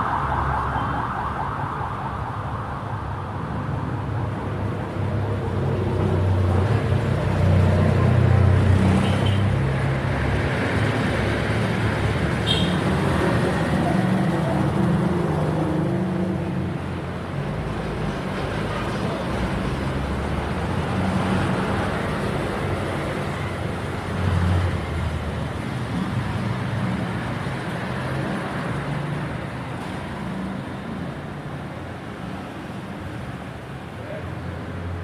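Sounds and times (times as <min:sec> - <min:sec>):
rumble of passing vehicles: 0:00.0 - 0:35.0.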